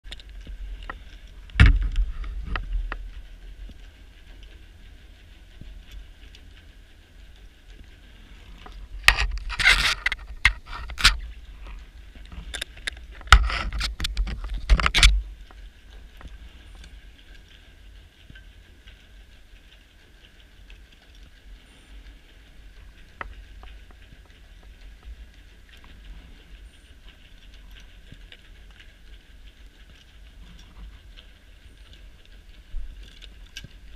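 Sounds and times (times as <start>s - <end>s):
faint steady hiss: 0.1s - 33.9s.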